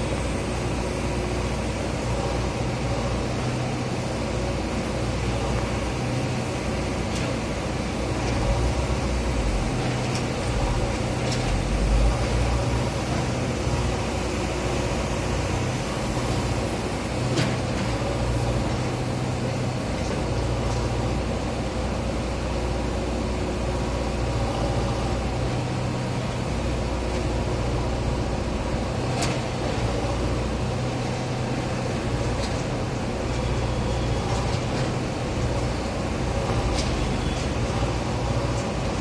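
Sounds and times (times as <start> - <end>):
diesel engine droning: 0.0 - 39.0.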